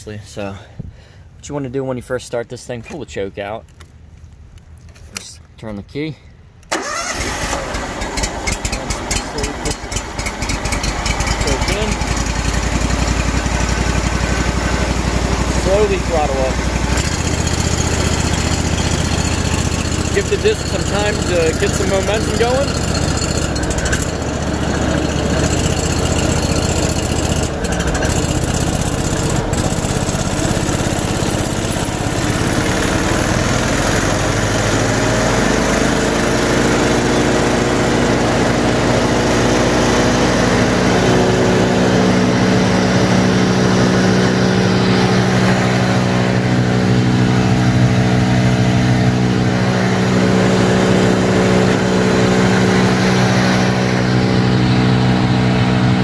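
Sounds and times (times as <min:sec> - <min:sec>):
wood chipper engine running: 0:06.7 - 0:56.0.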